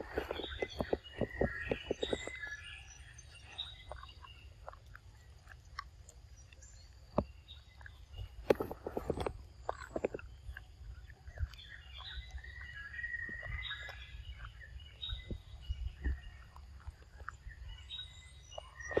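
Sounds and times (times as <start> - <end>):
birds chirping and whistling: 0.0 - 5.6, 6.4 - 19.0
monkey chewing peanuts: 0.0 - 19.0.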